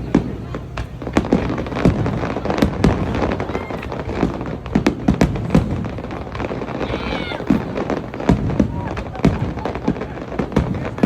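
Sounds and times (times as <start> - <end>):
fireworks bangs and cracks: 0.0 - 11.0
low fireworks booms: 0.0 - 11.0.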